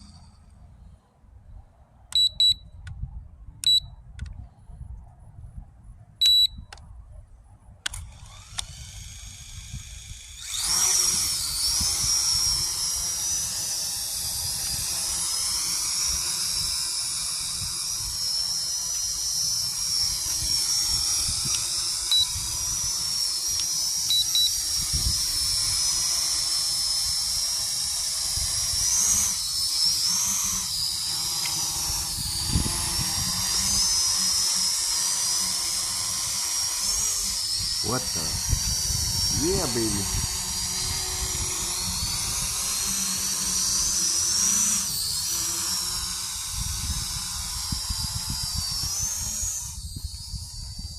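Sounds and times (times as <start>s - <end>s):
drone motors whining: 0.0s - 0.9s, 7.9s - 50.9s
toy drone beeping: 2.1s - 2.8s, 6.2s - 6.7s, 7.9s - 50.9s.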